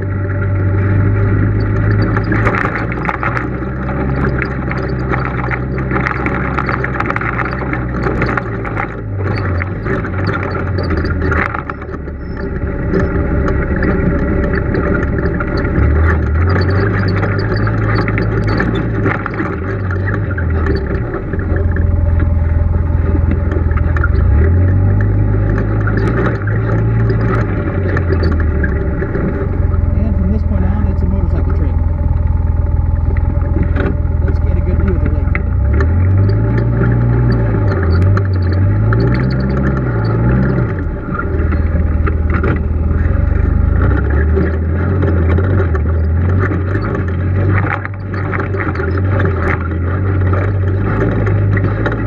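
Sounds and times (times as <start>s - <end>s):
vehicle engine droning: 0.0s - 52.0s.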